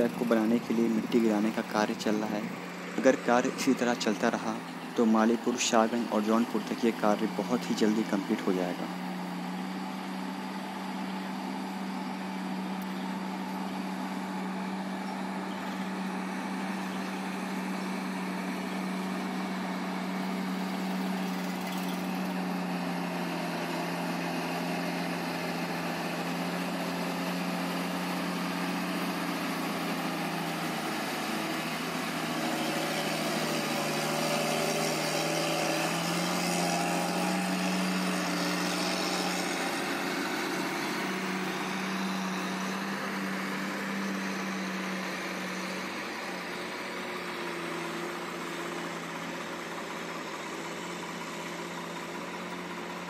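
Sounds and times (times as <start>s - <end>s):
drone propellers humming: 0.0s - 47.4s.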